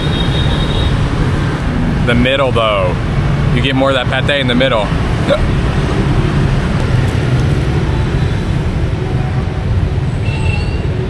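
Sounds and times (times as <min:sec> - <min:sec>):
street traffic of motorbikes: 0:00.0 - 0:11.0.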